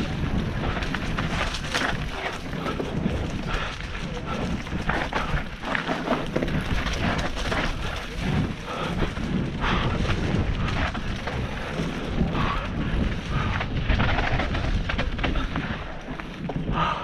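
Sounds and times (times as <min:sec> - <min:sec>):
bike rattling: 0:00.0 - 0:17.0
tyres rumbling over dirt: 0:00.0 - 0:17.0
wind buffeting microphone: 0:00.0 - 0:17.0.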